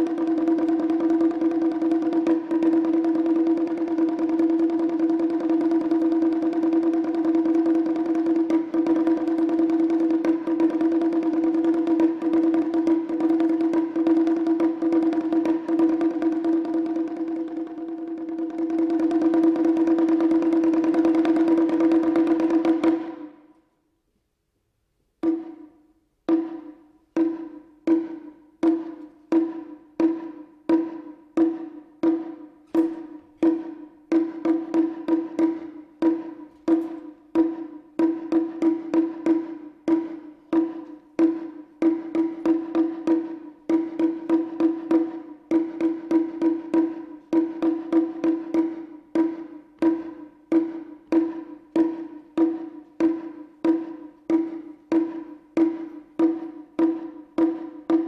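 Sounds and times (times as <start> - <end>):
high-pitched drum strikes: 0.0 - 23.4, 25.2 - 58.0.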